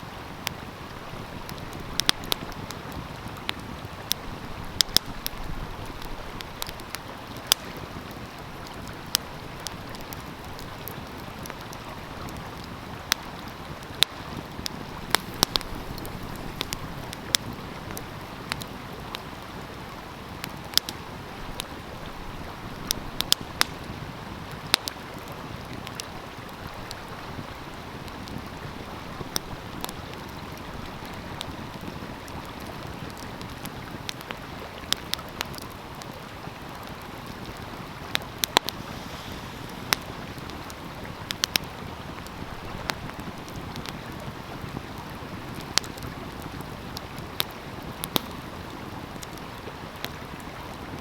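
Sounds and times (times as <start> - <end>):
flowing stream: 0.0 - 51.0
wood fire crackling and popping: 0.3 - 51.0.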